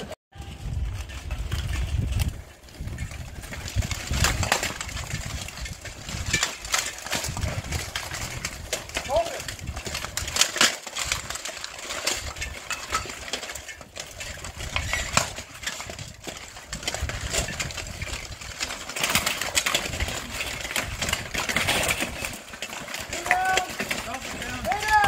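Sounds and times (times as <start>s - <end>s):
plate armor clanking: 0.0s - 25.0s.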